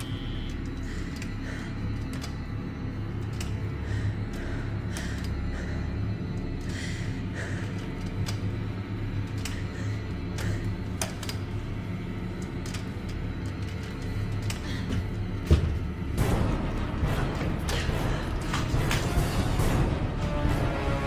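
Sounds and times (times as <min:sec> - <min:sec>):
low steady drone: 0:00.0 - 0:21.0.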